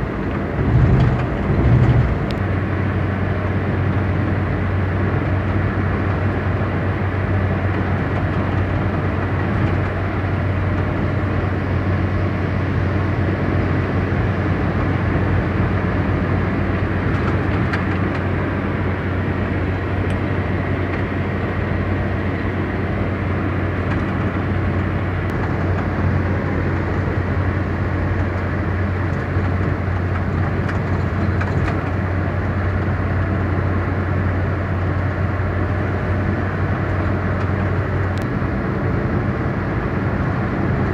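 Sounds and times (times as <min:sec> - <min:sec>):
car engine and tyre noise: 0:00.0 - 0:40.9.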